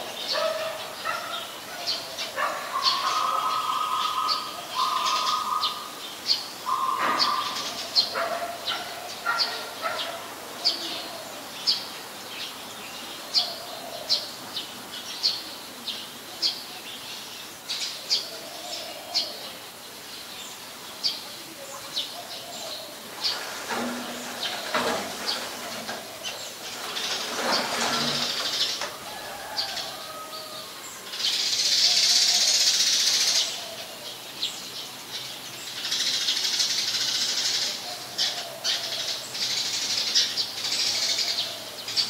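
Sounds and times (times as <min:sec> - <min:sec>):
sparrows chirping: 0:00.0 - 0:42.0.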